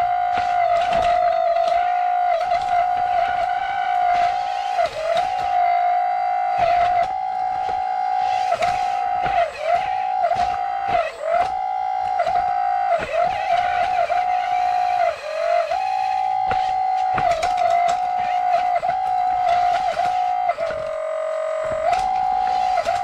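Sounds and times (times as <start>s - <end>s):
clicks: 0.0s - 23.0s
small electric motor whining: 0.0s - 23.0s.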